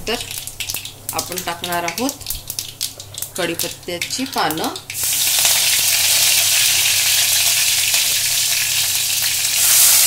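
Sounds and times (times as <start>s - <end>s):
leaves and seeds sizzling in hot oil: 0.0s - 10.0s.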